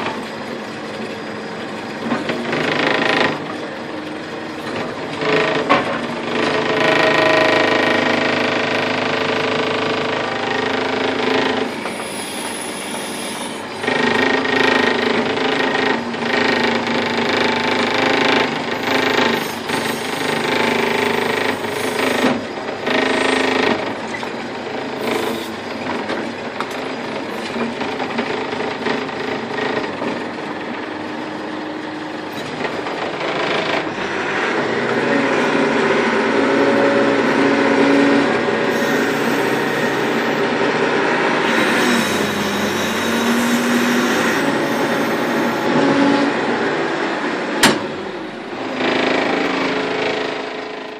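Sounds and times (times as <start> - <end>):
backhoe diesel engine running: 0.0 - 50.9.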